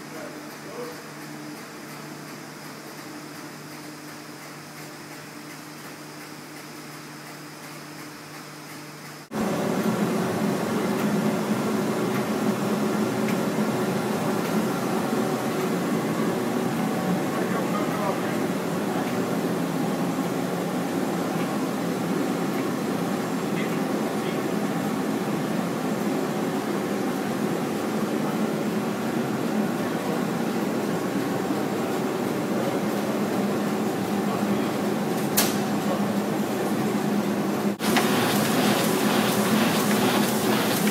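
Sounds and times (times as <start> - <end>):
printing press running: 0.0 - 40.9.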